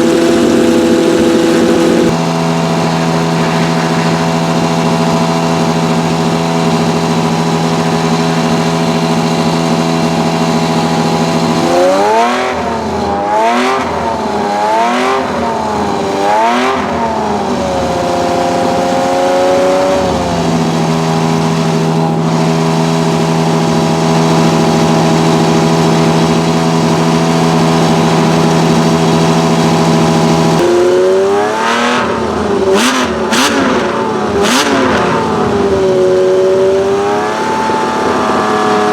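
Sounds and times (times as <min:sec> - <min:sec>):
car engine idling: 0:00.0 - 0:38.9
engine revving: 0:00.0 - 0:38.9.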